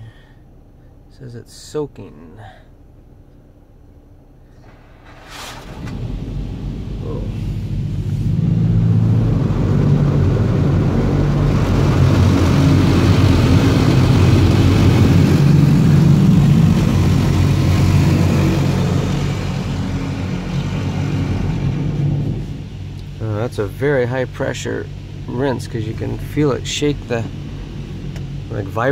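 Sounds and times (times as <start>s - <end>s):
water jets spraying on vehicle: 4.8s - 28.9s.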